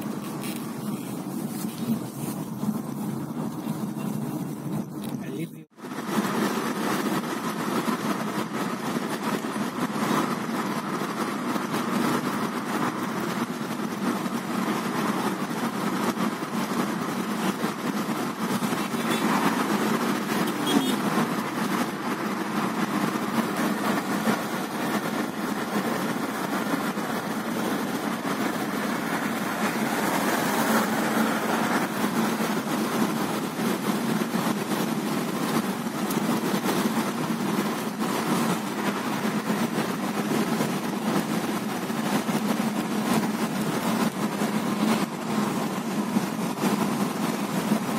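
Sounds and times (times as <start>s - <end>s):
car engine and tyre noise: 0.0s - 47.9s.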